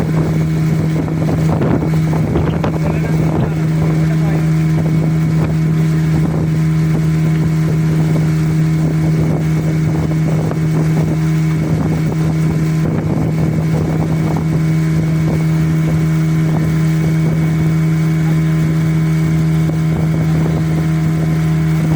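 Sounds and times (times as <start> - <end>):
outboard engine droning: 0.0 - 21.9
wind noise: 0.0 - 21.9.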